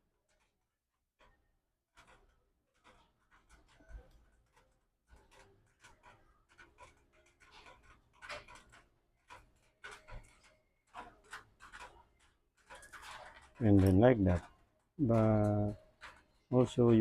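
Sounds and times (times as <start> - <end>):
hands handling small parts: 2.8 - 17.0.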